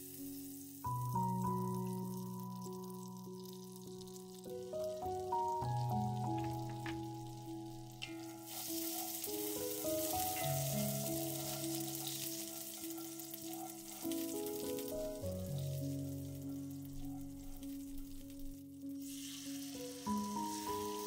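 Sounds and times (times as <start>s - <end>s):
fat sizzling in a skillet: 0.0s - 21.0s
soft background music: 0.0s - 21.0s.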